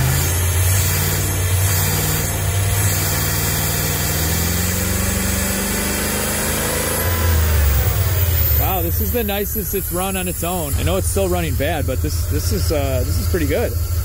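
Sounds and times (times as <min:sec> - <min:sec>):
car engine idling rough: 0:00.0 - 0:14.0.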